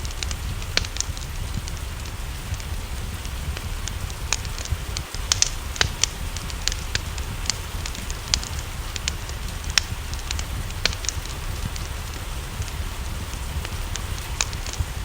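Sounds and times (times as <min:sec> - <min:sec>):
low rumble: 0:00.0 - 0:15.0
rain hiss: 0:00.0 - 0:15.0
wood fire crackling and popping: 0:00.0 - 0:15.0.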